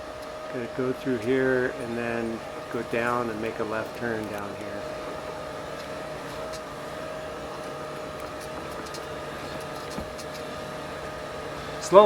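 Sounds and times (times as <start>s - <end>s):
mechanical hum with whine: 0.0s - 12.0s.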